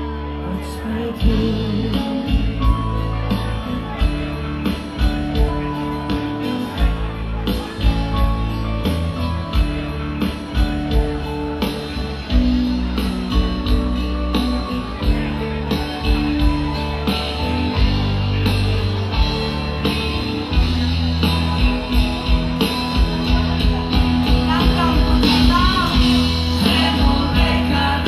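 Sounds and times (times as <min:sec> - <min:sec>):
acoustic guitar: 0:00.0 - 0:28.0
bass guitar: 0:00.0 - 0:28.0
drums: 0:00.0 - 0:28.0
electric guitar: 0:00.0 - 0:28.0.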